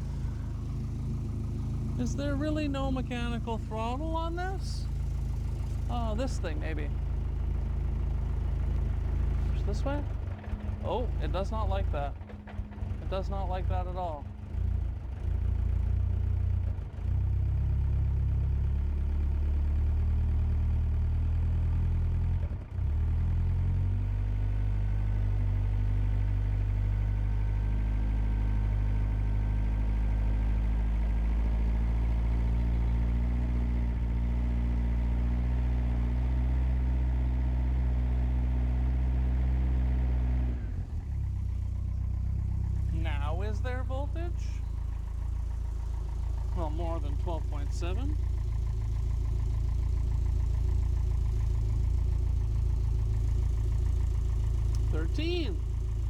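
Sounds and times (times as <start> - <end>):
car engine rough idle: 0.0 - 56.0.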